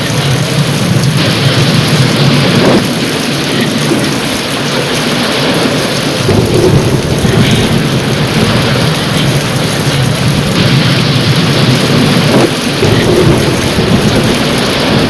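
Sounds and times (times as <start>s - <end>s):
heavy rain: 0.0s - 15.0s
rolling thunder: 0.0s - 15.0s.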